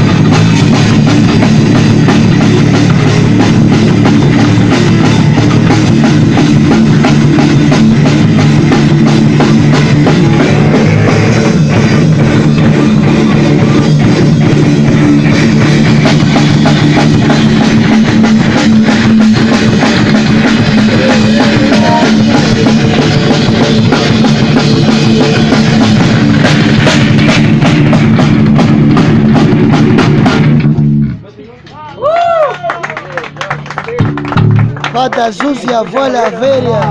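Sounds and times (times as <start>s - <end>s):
loud rock music: 0.0s - 31.3s, 33.7s - 36.9s.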